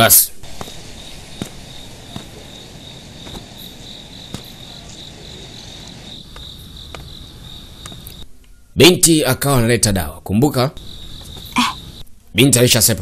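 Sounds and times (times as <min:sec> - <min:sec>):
crickets chirping: 0:00.0 - 0:09.0, 0:10.4 - 0:13.0.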